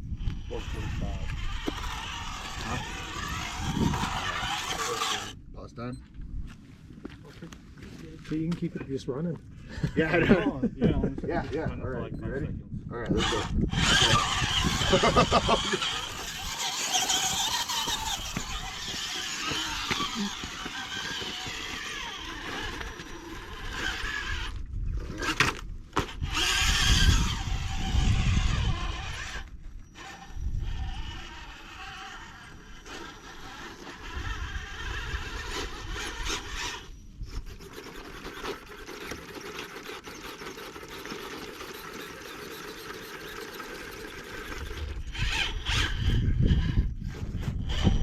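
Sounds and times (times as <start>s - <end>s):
toy car motor whine and scrape: 0.0s - 5.4s, 13.1s - 48.0s
wind buffeting microphone: 0.0s - 5.6s, 9.5s - 38.9s, 44.2s - 48.0s.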